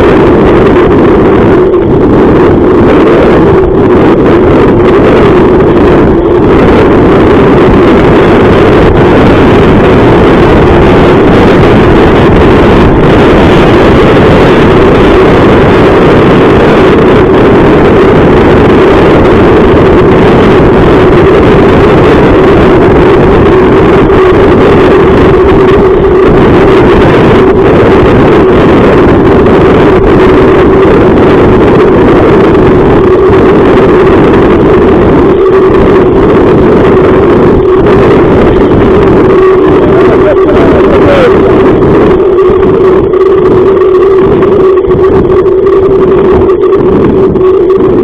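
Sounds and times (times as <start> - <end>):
constant low drone: 0.0 - 48.0
wind rushing on microphone: 0.0 - 48.0.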